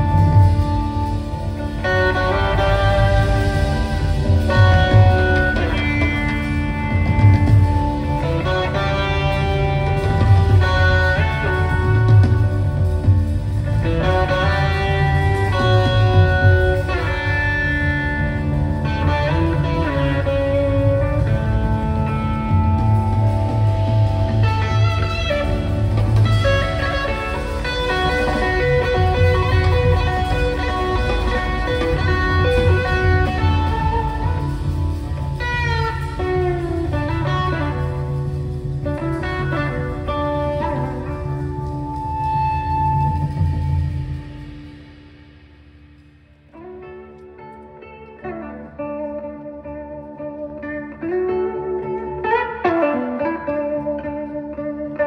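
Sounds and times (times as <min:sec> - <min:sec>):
bass and drums: 0:00.0 - 0:55.0
blues-rock band playing: 0:00.0 - 0:55.0
electric guitar lead: 0:00.0 - 0:55.0.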